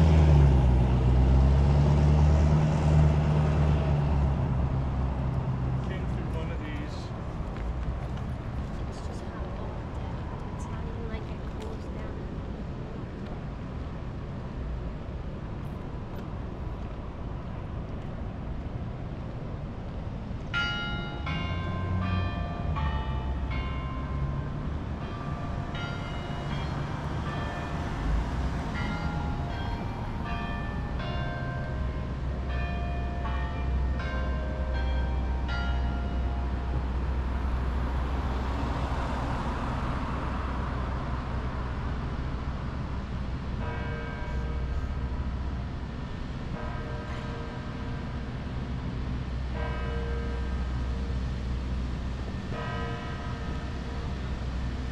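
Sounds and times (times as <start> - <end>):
car passing: 0.0 - 46.7
low traffic rumble: 0.0 - 54.9.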